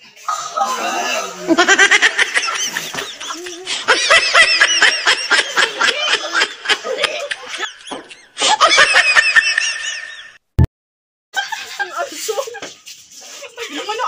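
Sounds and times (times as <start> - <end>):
women laughing: 0.3 - 10.4, 11.4 - 14.0.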